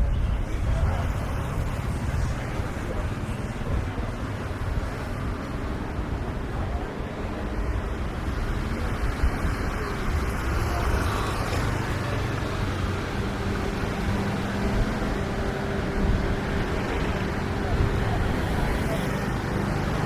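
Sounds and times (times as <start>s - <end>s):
engine hum: 0.0s - 20.0s
traffic rumble: 0.0s - 20.0s.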